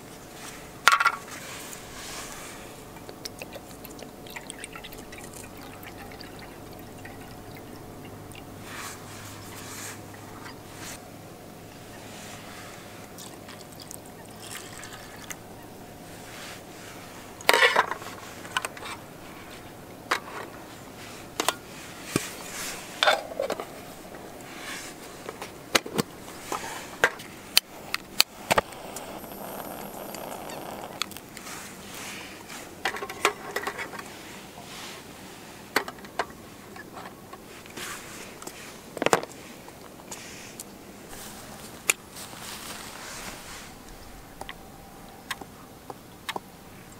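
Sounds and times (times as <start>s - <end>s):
outdoor background: 0.0s - 46.9s.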